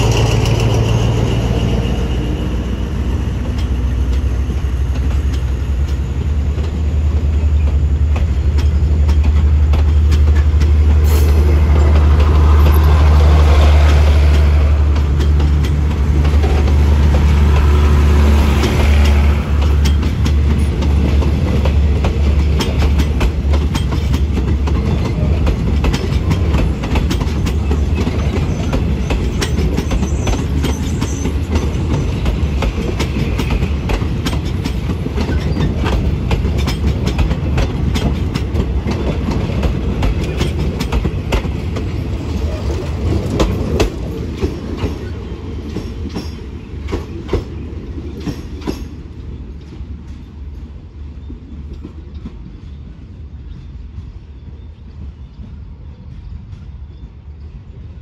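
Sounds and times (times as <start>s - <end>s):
train wheels clacking on rail joints: 0.0s - 57.0s
train rumble: 0.0s - 58.0s.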